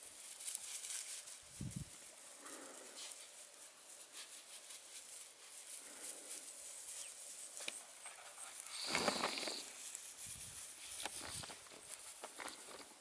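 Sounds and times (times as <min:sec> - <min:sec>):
puppies' paws rustling dry grass: 0:00.0 - 0:13.0.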